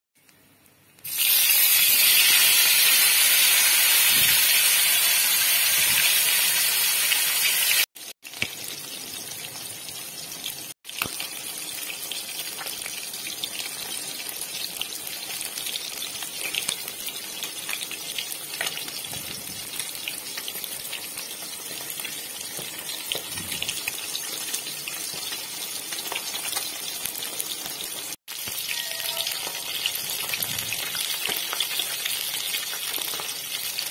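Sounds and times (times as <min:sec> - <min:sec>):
fish frying in hot oil: 0:01.0 - 0:33.9.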